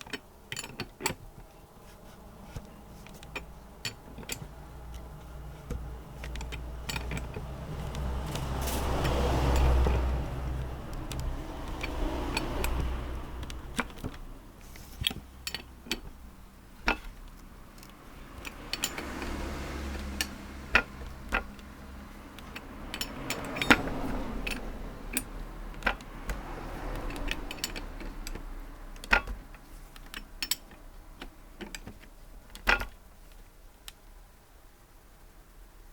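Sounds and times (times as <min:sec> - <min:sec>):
metal tools clinking: 0:00.0 - 0:01.7, 0:02.4 - 0:26.0, 0:26.8 - 0:32.0.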